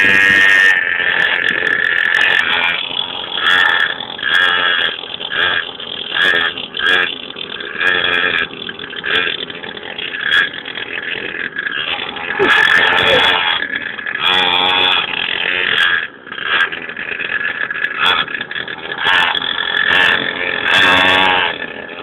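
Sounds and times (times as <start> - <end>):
small motorbike engine revving: 0.0 - 22.0.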